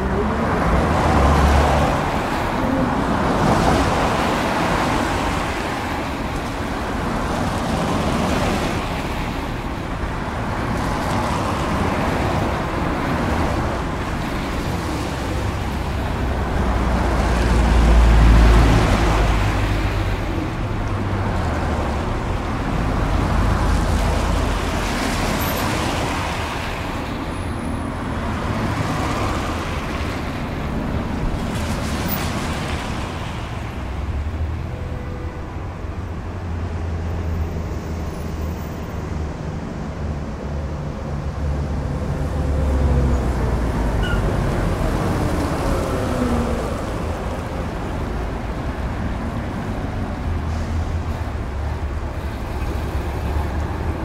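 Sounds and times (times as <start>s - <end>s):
street traffic passing: 0.0s - 54.0s.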